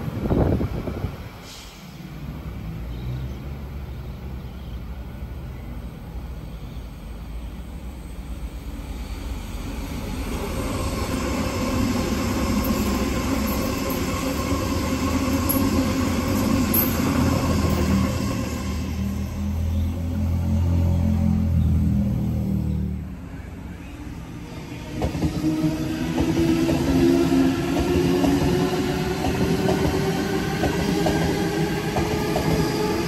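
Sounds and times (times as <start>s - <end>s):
train rumble and wheel noise: 0.0s - 33.0s.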